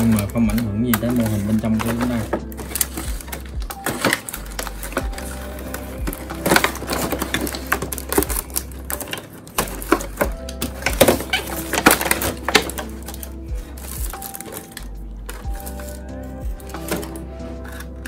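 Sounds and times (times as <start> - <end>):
background music: 0.0 - 18.0
plastic packaging crinkling: 0.0 - 18.0.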